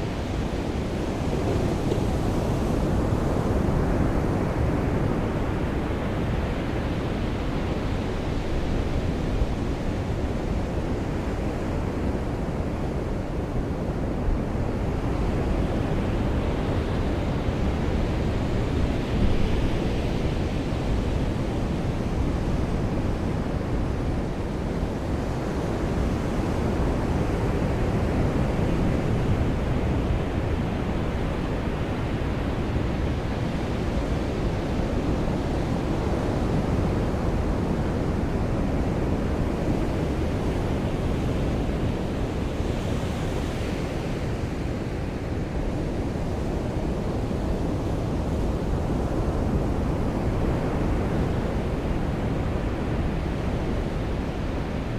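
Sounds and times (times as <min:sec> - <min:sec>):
ocean surf on beach: 0:00.0 - 0:54.9.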